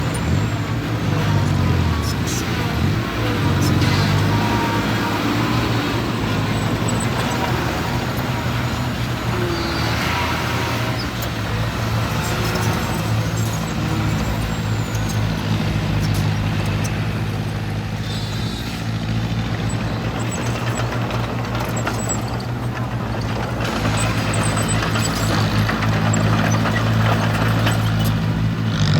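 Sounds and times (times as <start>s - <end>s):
large diesel engine running: 0.0s - 28.9s.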